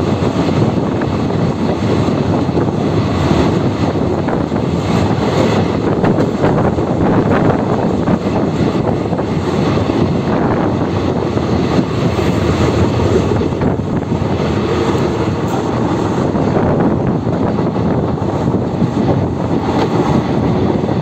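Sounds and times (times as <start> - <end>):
rushing air: 0.0 - 21.0
train wheels rumbling on rails: 0.0 - 21.0.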